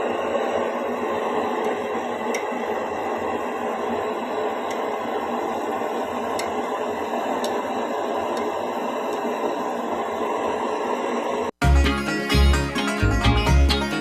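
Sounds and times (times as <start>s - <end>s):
pots boiling and bubbling: 0.0s - 11.6s.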